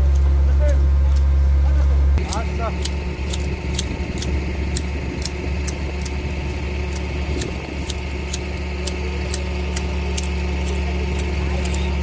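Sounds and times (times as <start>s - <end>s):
low engine hum: 0.0s - 12.0s
hedge shears clipping: 2.2s - 12.0s.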